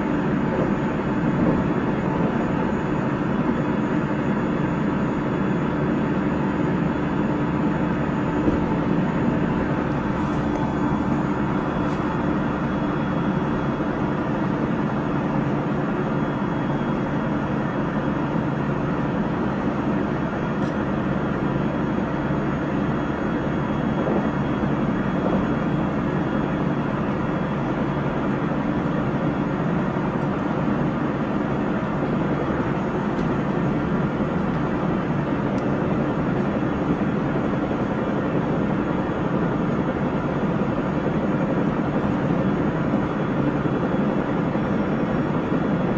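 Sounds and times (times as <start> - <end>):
wheels rumbling on rail: 0.0 - 45.9.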